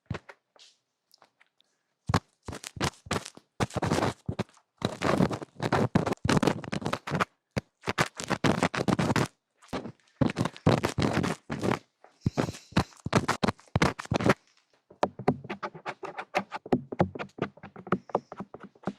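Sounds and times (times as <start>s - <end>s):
rapid scratching and scraping: 2.1s - 18.9s.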